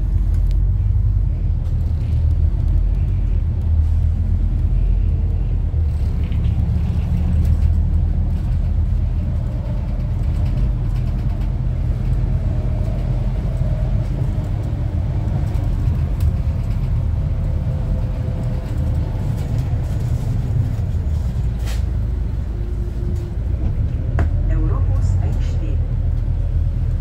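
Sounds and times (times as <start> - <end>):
vehicle cabin rumble: 0.0 - 27.0.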